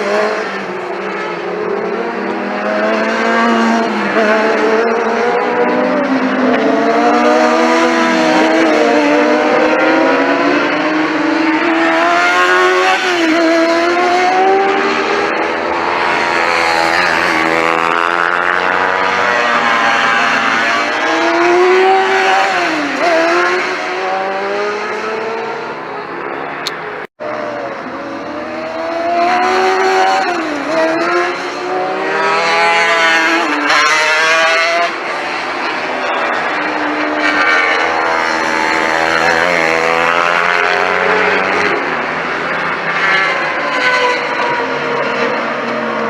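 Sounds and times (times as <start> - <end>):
motorbike engines revving: 0.0 - 46.0.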